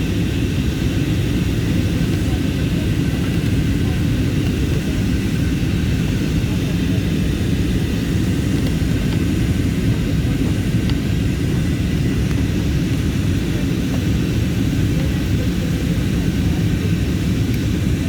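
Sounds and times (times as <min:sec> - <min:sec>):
airplane cabin drone: 0:00.0 - 0:18.0.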